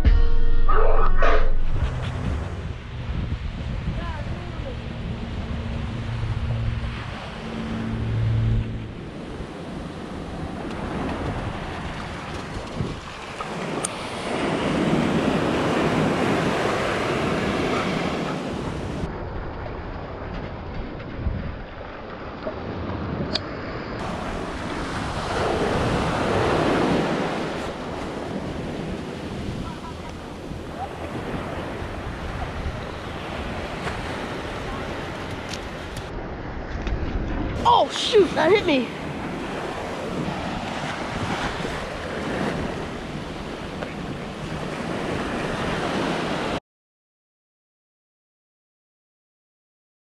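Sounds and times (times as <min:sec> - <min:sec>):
wind rumbling on microphone: 0:00.7 - 0:46.6
ocean surf washing up beach: 0:01.9 - 0:46.6.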